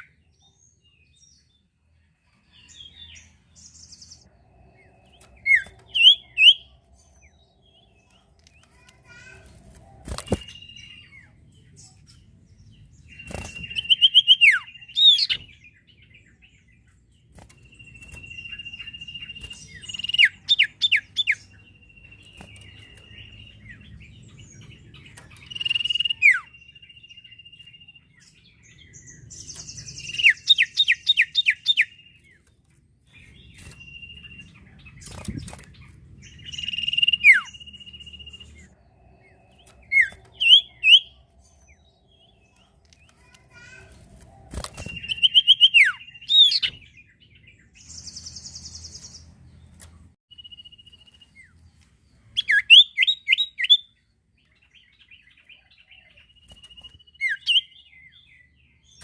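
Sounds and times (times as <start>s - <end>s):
songbird whistling and chirping: 2.2s - 9.3s, 10.1s - 16.8s, 17.6s - 32.5s, 33.1s - 35.6s, 36.2s - 43.8s, 44.4s - 49.3s, 50.3s - 59.0s.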